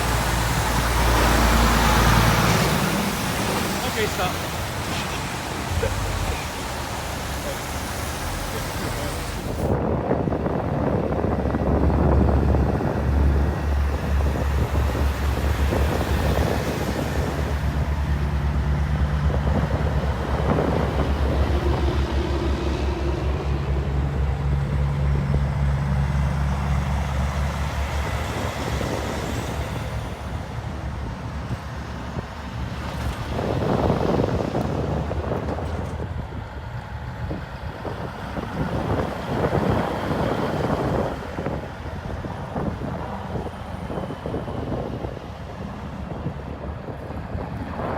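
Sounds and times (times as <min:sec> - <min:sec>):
diesel truck engines rolling past: 0:00.0 - 0:47.9.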